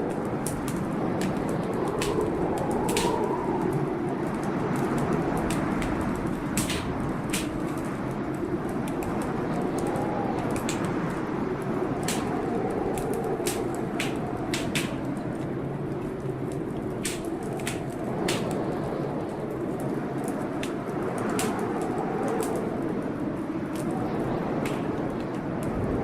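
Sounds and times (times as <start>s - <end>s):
storm rain rushing: 0.0s - 26.0s
wood fire crackling: 0.0s - 26.0s.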